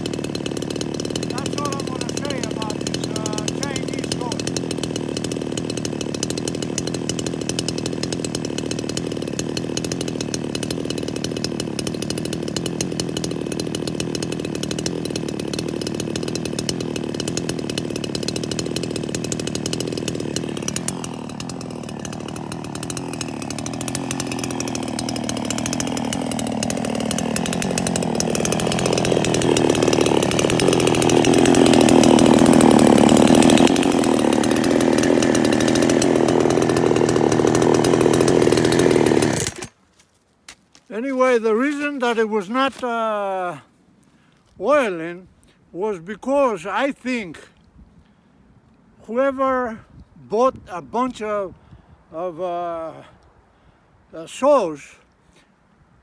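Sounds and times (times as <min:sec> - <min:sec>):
chainsaw running: 0:00.0 - 0:39.8, 0:40.8 - 0:47.6.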